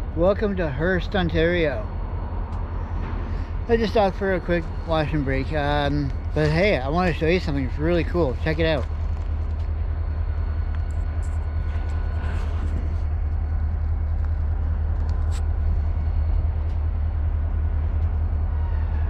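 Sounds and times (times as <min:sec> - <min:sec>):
heavy engine rumbling: 0:00.0 - 0:19.0.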